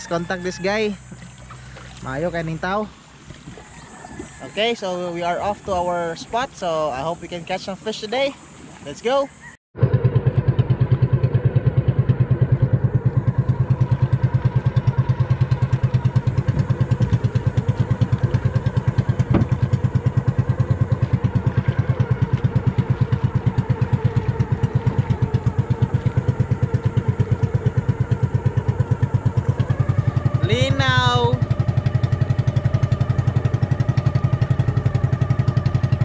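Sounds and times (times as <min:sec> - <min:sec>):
boat engine running: 0:00.0 - 0:36.0.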